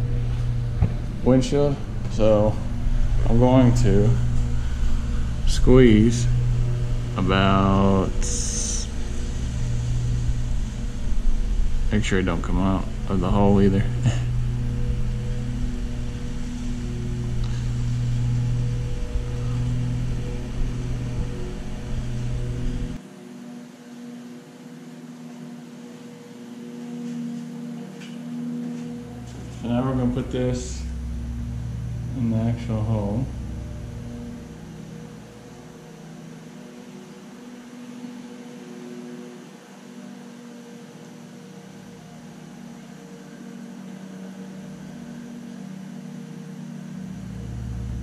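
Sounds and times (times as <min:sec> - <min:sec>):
low machine hum: 0:00.0 - 0:48.0
soft hiss: 0:00.0 - 0:48.0.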